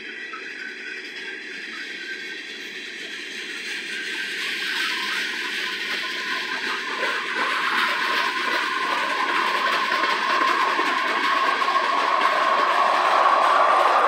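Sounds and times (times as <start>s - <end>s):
train wheels rushing on rails: 1.7s - 14.0s.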